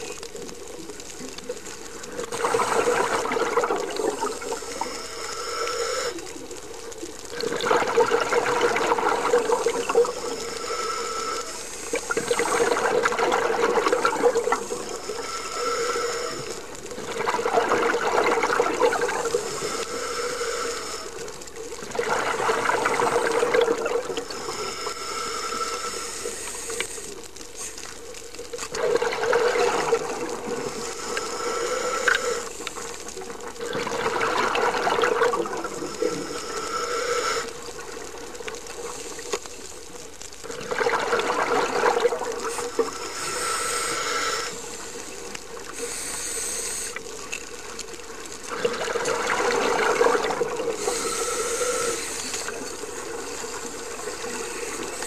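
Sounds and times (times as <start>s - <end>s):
gurgling exhaled bubbles: 0.0s - 5.0s, 7.2s - 26.8s, 28.5s - 39.0s, 40.4s - 47.0s, 47.8s - 55.0s
regulator inhalation hiss: 0.0s - 7.4s, 8.3s - 17.1s, 18.0s - 28.5s, 29.6s - 33.5s, 35.1s - 40.0s, 42.3s - 55.0s.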